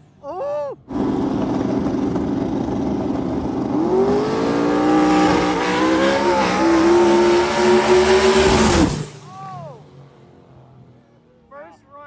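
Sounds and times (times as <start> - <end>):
drag racing engines revving: 0.8 - 11.5.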